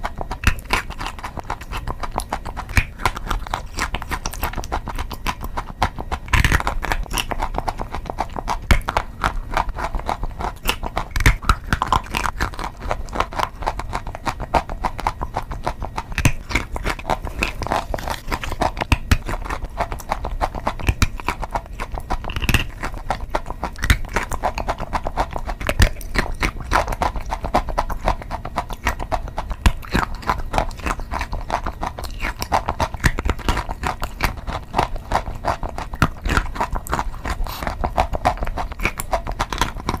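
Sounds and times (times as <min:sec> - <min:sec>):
chalk being chewed: 0:00.0 - 0:40.0.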